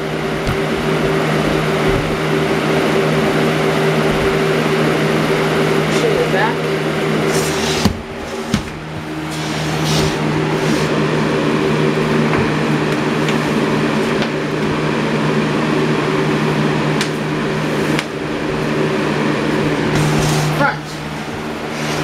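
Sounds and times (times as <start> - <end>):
fan air rushing: 0.0 - 22.0
low motor hum: 0.0 - 22.0.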